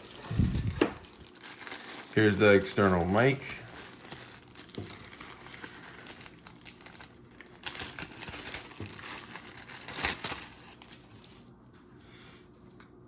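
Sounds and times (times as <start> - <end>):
packaging crinkling and rustling: 0.0 - 11.5.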